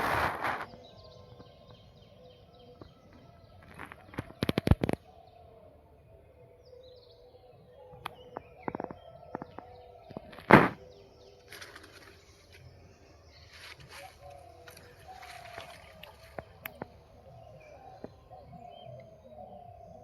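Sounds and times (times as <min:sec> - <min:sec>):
birdsong: 0:00.0 - 0:20.0.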